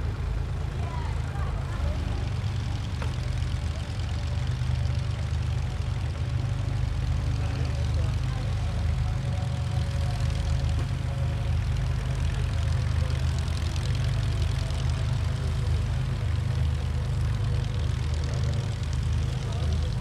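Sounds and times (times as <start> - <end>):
aircraft engine and propeller: 0.0 - 20.0.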